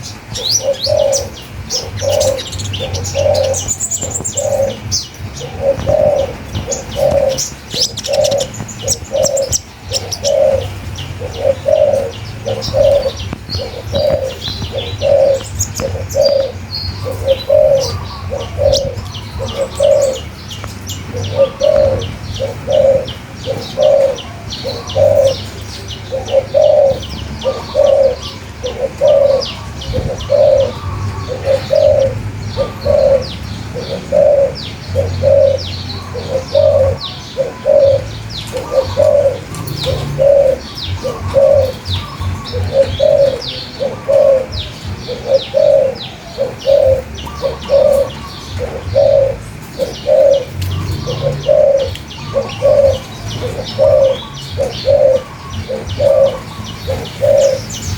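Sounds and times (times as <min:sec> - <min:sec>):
dove cooing: 0:00.0 - 0:57.9
small birds chirping: 0:00.0 - 0:57.9.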